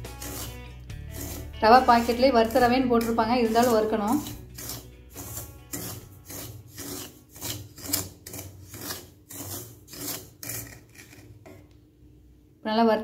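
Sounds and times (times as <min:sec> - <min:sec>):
wooden spatula scraping semolina: 0:00.0 - 0:11.7.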